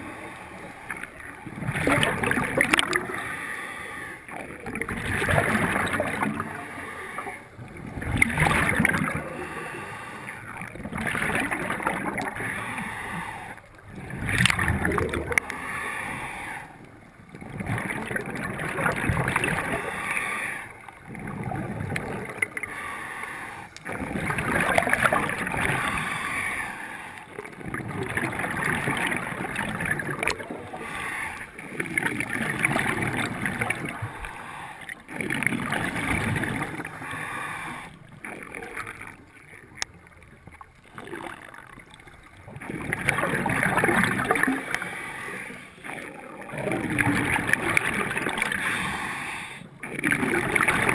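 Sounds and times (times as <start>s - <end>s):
regulator bubbling underwater: 0.9s - 3.4s, 4.3s - 13.1s, 13.7s - 15.8s, 16.8s - 20.2s, 20.8s - 22.9s, 23.7s - 49.1s, 49.7s - 50.9s.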